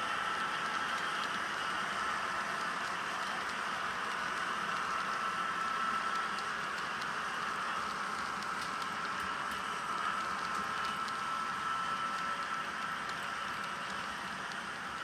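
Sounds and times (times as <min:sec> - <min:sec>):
model train wheels rolling on rail: 0:00.0 - 0:15.0
light clicks of track: 0:00.4 - 0:01.4, 0:02.5 - 0:11.3, 0:11.9 - 0:15.0.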